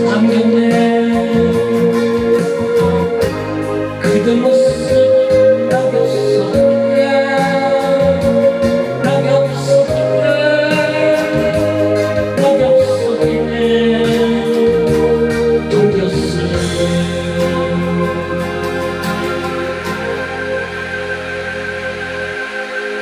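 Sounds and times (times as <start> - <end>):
slow pop ballad: 0.0 - 23.0.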